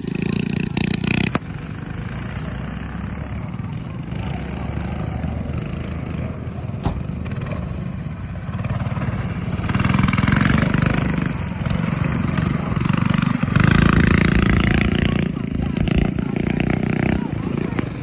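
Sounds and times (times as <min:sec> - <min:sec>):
mini bike engines racing: 0:00.0 - 0:18.0.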